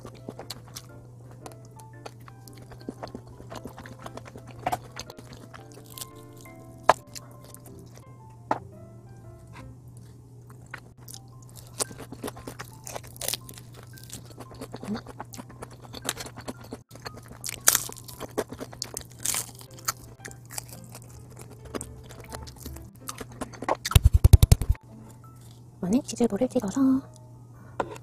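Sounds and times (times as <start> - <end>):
crunching and chewing fried chicken: 0.0 - 8.0, 9.5 - 25.7.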